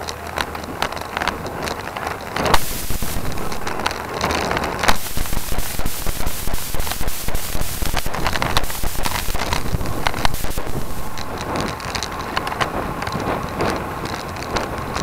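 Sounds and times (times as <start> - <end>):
crackles and knocks from road vibration: 0.0 - 15.0
wind buffeting microphone: 0.7 - 15.0.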